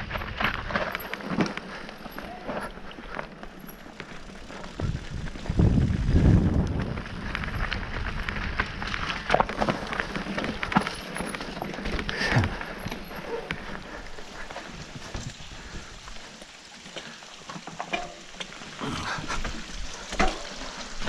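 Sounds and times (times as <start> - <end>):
bike clattering over rocks: 0.0 - 15.9, 16.9 - 21.0.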